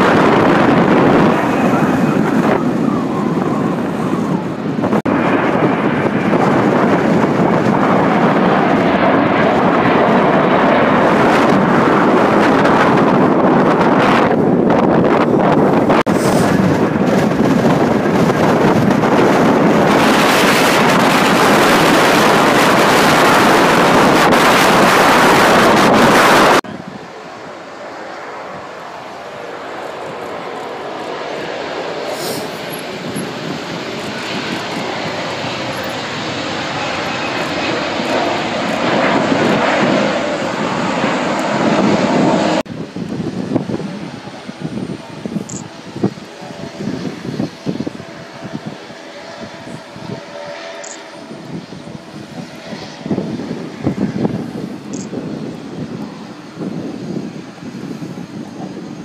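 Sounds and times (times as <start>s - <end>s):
jet engines roaring at takeoff: 0.0s - 59.0s
wind buffeting microphone: 0.0s - 59.0s.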